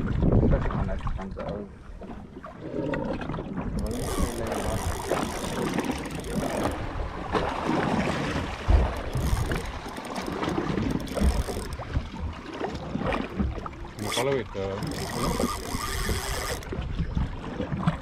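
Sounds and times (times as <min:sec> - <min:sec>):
water sloshing: 0:00.0 - 0:18.0
wind: 0:00.0 - 0:18.0.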